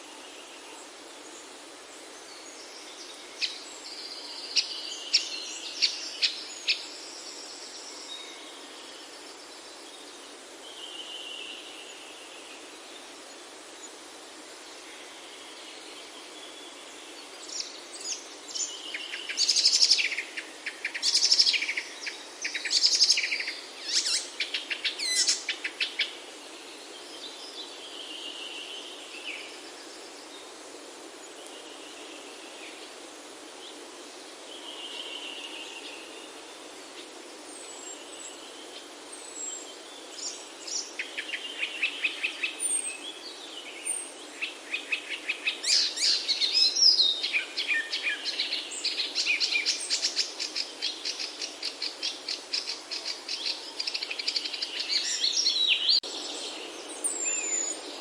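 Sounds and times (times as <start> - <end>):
songbirds trilling and chirping: 0.0 - 58.0
steady background hiss: 0.0 - 58.0.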